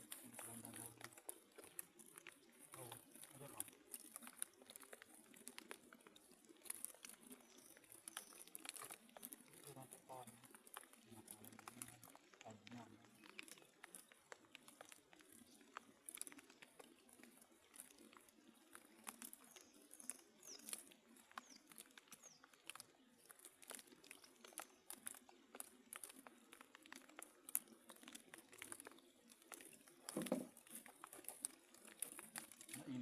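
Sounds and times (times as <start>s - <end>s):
faint ticks and clicks: 0.0s - 33.0s.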